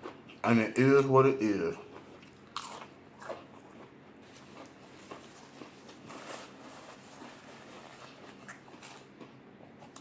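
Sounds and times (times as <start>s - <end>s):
soft chewing: 0.0s - 0.6s, 1.6s - 10.0s.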